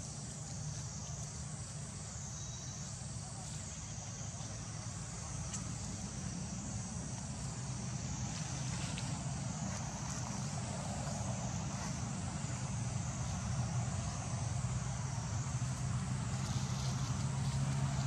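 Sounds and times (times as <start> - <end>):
distant engine rumble: 0.0 - 18.0
insects droning: 0.0 - 18.0.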